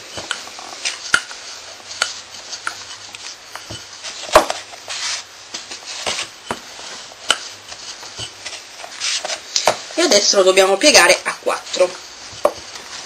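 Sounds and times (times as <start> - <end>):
rolling pin on wooden board: 0.1 - 9.9, 11.9 - 13.0.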